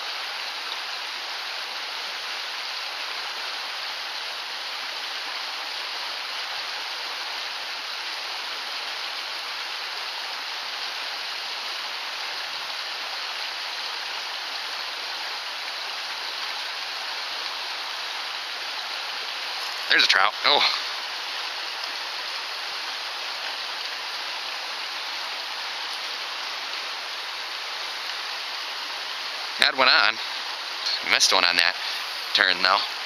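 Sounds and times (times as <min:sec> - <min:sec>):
creek rushing over rocks: 0:00.0 - 0:33.0.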